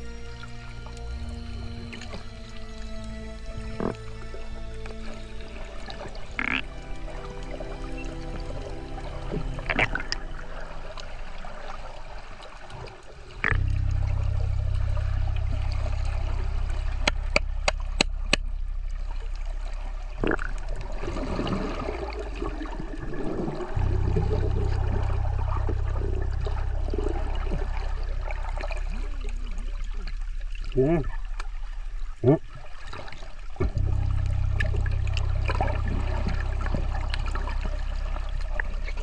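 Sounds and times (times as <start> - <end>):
steady low drone: 0.0 - 32.4, 33.4 - 39.0
water sloshing and gurgling: 0.0 - 39.0.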